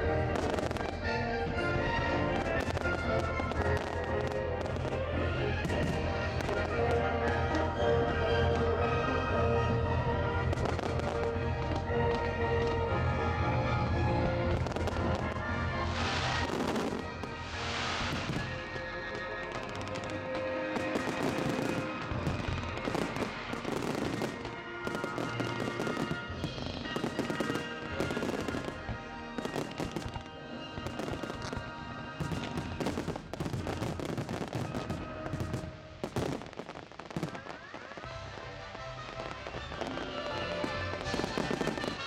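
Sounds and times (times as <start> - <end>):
fireworks bangs: 0.0 - 7.7, 10.5 - 12.8, 14.5 - 42.0
music soundtrack: 0.0 - 42.0.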